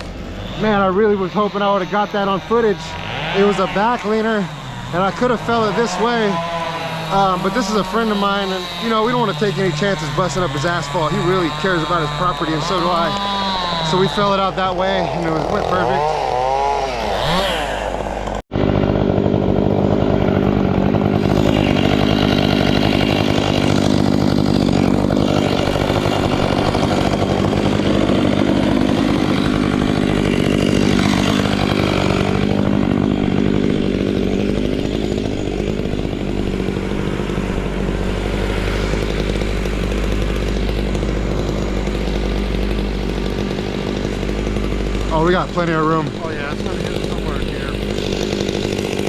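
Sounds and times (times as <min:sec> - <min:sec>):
chainsaw engine at high revs: 0:00.0 - 0:49.0.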